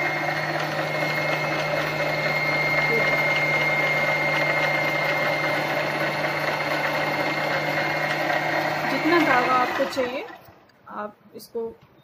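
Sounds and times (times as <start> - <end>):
sewing machine motor humming: 0.0 - 10.7.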